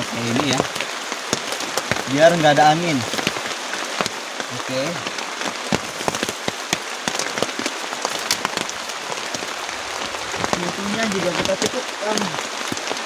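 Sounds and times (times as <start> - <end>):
heavy rain hissing: 0.0 - 13.0
raindrops tapping close by: 0.0 - 13.0.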